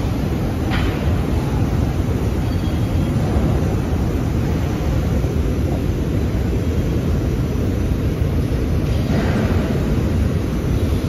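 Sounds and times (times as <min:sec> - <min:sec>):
factory workshop rumble: 0:00.0 - 0:11.0.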